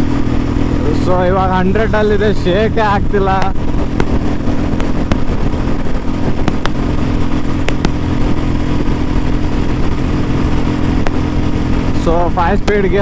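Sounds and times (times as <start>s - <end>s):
motorcycle engine cruising: 0.0s - 13.0s
wind rushing past microphone: 0.0s - 13.0s.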